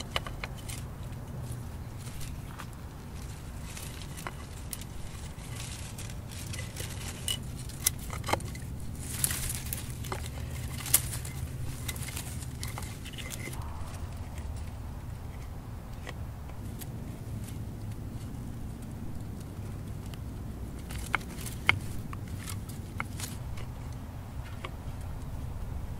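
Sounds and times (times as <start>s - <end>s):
steady low rumble: 0.0s - 25.9s
twigs clicking and crackling: 0.0s - 25.9s.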